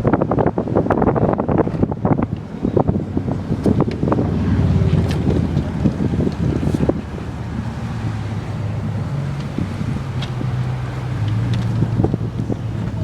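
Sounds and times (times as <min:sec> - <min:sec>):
truck engine droning: 0:00.0 - 0:13.0
wind rushing over microphone: 0:00.0 - 0:13.0.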